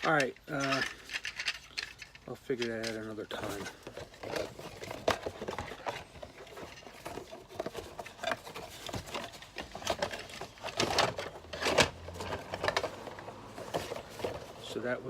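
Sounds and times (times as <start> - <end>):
hands handling plastic toy: 0.0 - 14.8.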